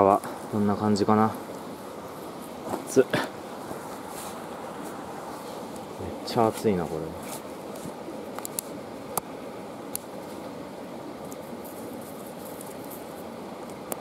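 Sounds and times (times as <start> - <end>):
campfire burning: 0.0 - 14.0.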